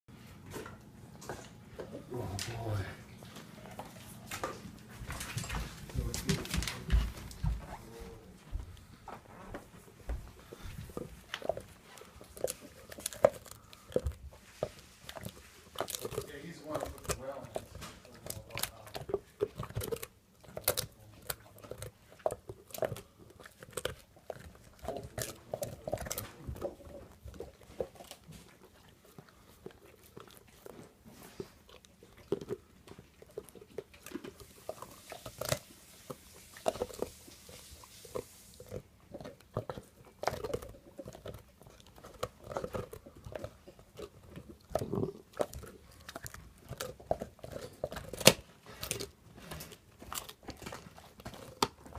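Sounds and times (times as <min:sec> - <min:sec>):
dog chewing and crunching a bone: 0:00.1 - 0:51.9.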